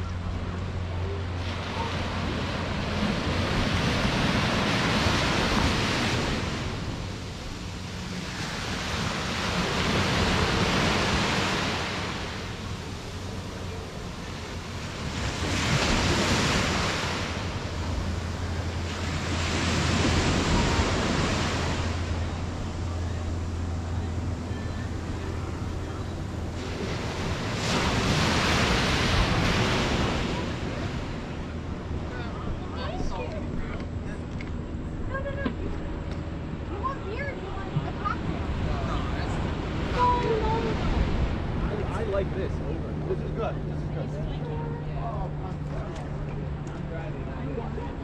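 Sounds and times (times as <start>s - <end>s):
steady low hum: 0.0s - 48.0s
surf breaking and washing: 0.0s - 48.0s.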